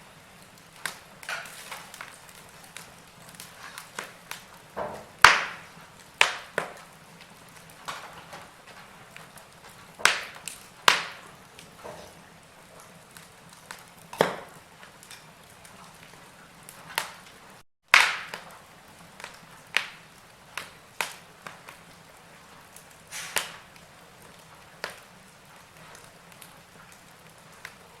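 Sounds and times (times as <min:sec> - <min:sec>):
wood fire crackling: 0:00.0 - 0:28.0
logs popping with sharp snaps: 0:00.4 - 0:12.1, 0:12.8 - 0:18.6, 0:19.2 - 0:22.0, 0:22.7 - 0:27.8.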